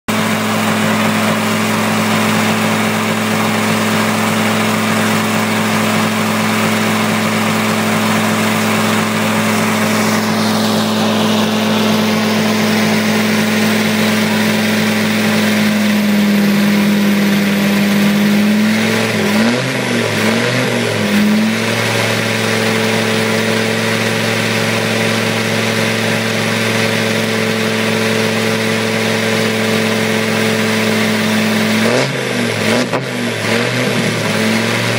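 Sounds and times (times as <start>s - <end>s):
car engine running at held revs: 0.1s - 34.9s.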